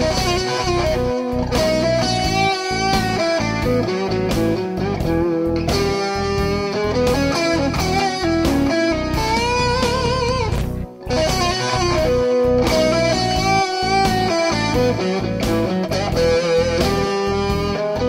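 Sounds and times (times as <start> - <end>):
backing music with beat: 0.0 - 18.0
electric guitar blues bends: 0.0 - 18.0.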